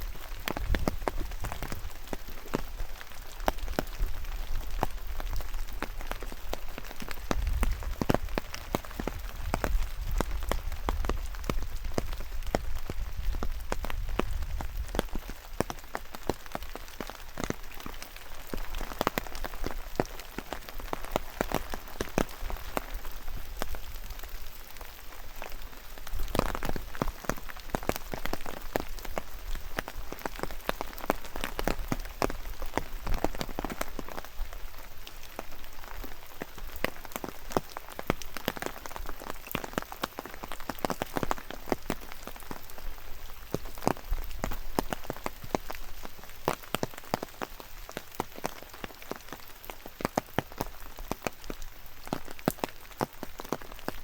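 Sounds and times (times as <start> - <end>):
raindrops tapping: 0.0 - 54.0.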